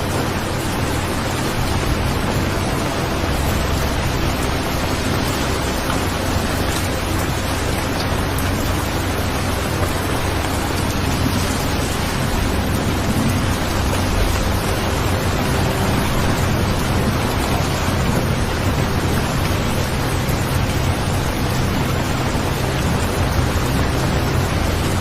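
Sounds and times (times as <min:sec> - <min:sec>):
deep rumble: 0:00.0 - 0:25.0
rain falling: 0:00.0 - 0:25.0.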